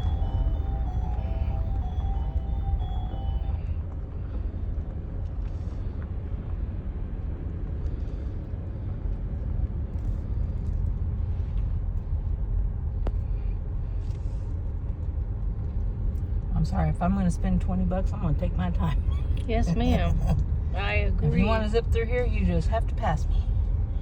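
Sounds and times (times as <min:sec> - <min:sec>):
car engine and tyres rumble: 0:00.0 - 0:24.0.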